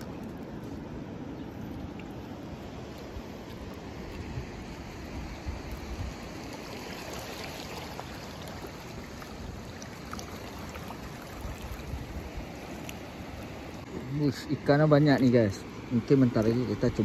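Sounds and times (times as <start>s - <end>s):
shallow surf washing over rocks: 0.0s - 17.0s.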